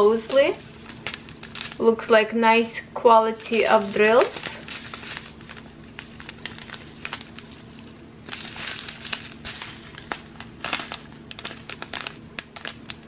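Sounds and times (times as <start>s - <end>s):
plastic bags crinkling: 0.0s - 2.1s, 3.4s - 13.0s.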